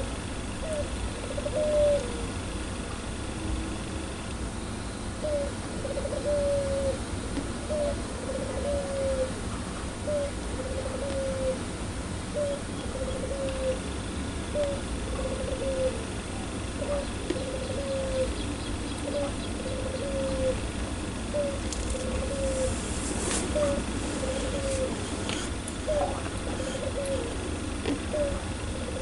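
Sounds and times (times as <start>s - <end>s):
dove cooing: 0.6s - 2.5s, 5.2s - 11.7s, 12.3s - 22.9s, 23.5s - 29.0s.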